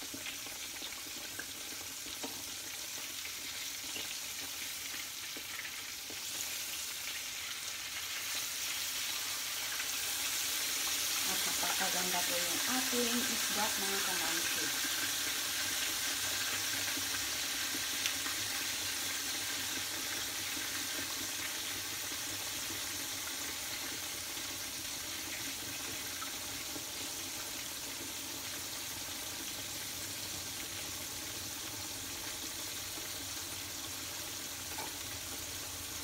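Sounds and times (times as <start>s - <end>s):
fish sizzling in hot oil: 0.0s - 36.0s.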